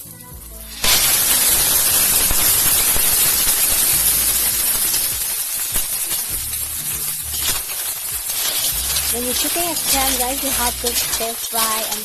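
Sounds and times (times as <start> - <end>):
clams sizzling in hot oil: 0.0 - 12.0.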